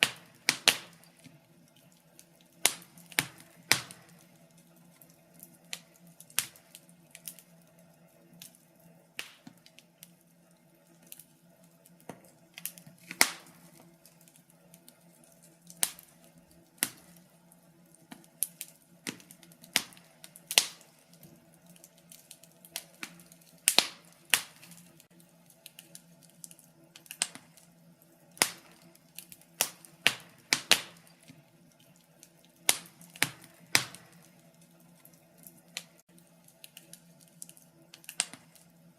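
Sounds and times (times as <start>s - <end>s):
faint steady hum: 0.0s - 38.9s
wood fire crackling and popping: 0.0s - 38.9s.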